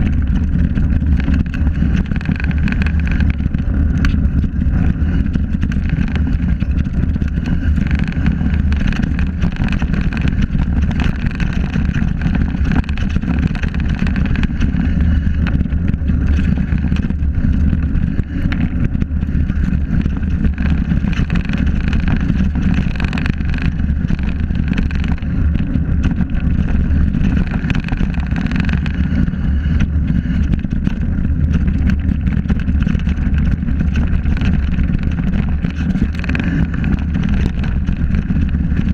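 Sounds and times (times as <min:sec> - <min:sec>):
bike tyres rumbling over dirt: 0:00.0 - 0:38.9
wind buffeting microphone: 0:00.0 - 0:38.9.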